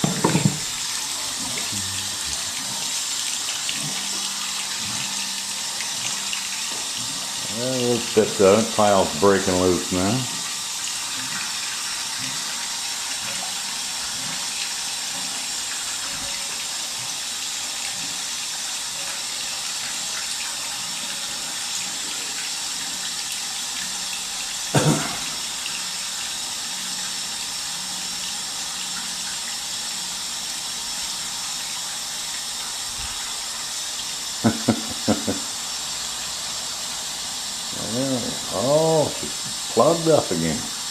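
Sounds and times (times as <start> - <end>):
water hissing from drain: 0.0 - 40.9.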